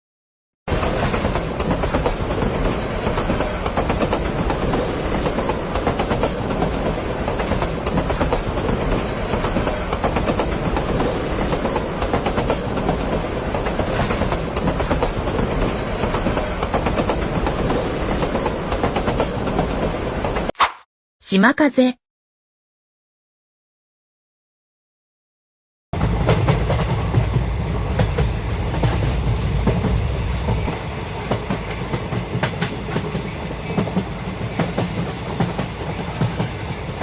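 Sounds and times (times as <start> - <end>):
train wheels clattering on track: 0.7 - 20.4, 26.0 - 37.0.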